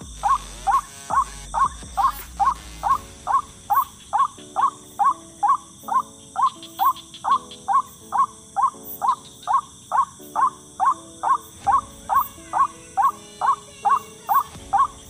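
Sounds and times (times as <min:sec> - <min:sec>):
waterhen calling: 0:02.8 - 0:15.0.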